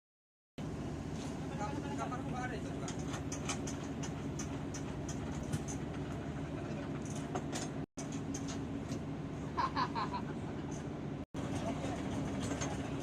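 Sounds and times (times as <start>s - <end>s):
engine drone: 0.6s - 13.0s.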